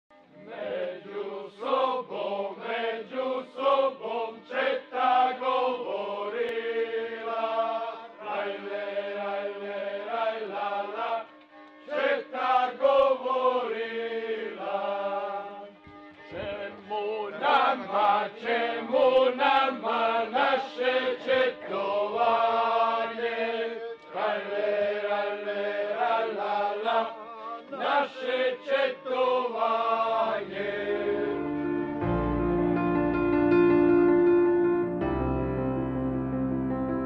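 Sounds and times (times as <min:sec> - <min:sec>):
group chanting in unison: 0:00.4 - 0:31.4.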